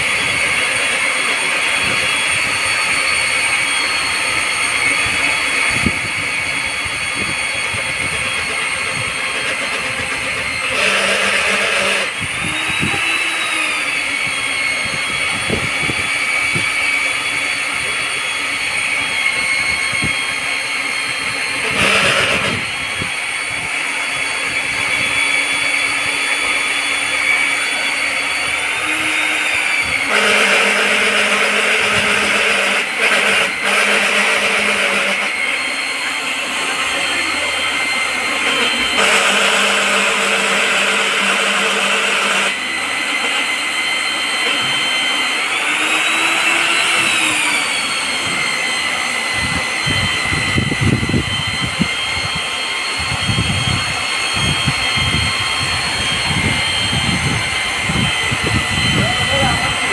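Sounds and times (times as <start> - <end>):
core drill motor whine: 0.0 - 59.9
drill grinding through wall: 0.0 - 59.9.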